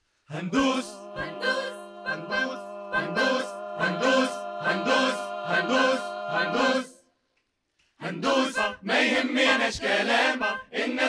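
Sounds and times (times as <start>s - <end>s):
choir singing chords: 0.3s - 7.1s, 8.0s - 11.0s.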